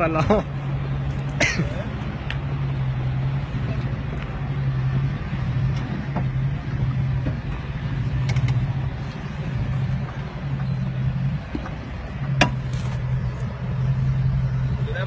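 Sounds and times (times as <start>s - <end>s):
low engine note: 0.0s - 15.0s
tyres on rough dirt: 0.0s - 15.0s.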